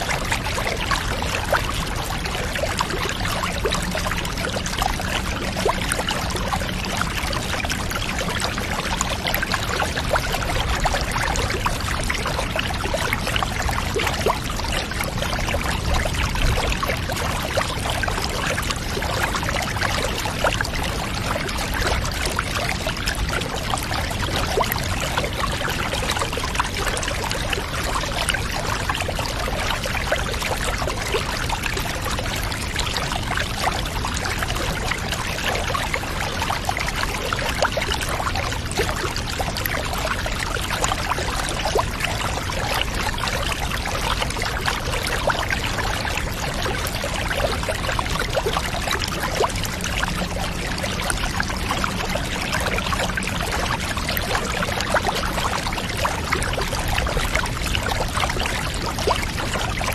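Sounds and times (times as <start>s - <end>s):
small water splashes: 0.0s - 59.9s.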